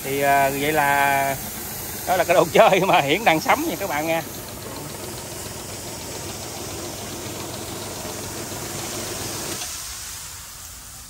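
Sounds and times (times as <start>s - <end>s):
sprayer pump running with hiss: 0.0s - 11.0s.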